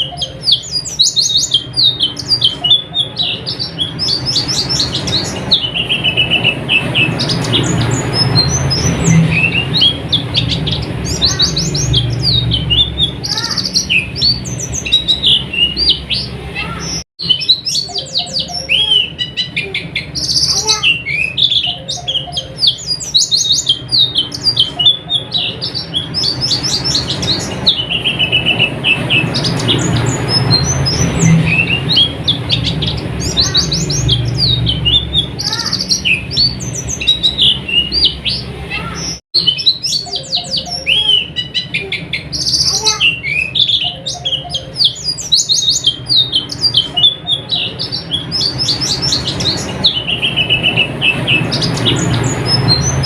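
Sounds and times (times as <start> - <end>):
birds twittering and trilling: 0.0 - 53.0.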